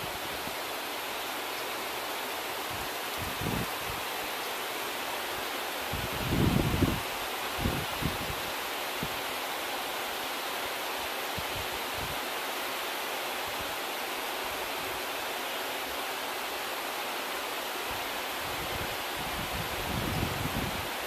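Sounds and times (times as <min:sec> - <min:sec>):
heavy rain on leaves: 0:00.0 - 0:21.0.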